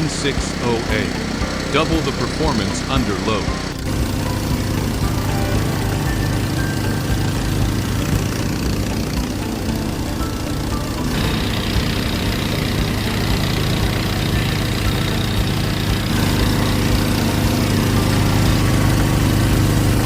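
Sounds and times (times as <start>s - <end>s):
generator engine running: 0.0s - 20.0s.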